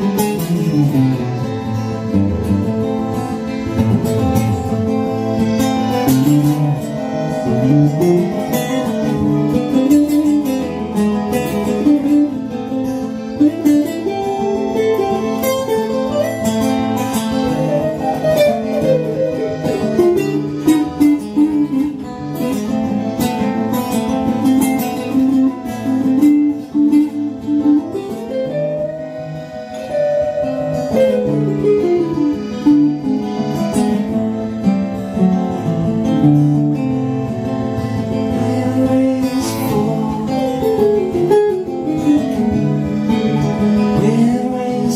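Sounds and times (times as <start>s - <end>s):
guitars playing chords: 0.0s - 44.9s
sliding lead guitar melody: 0.0s - 44.9s.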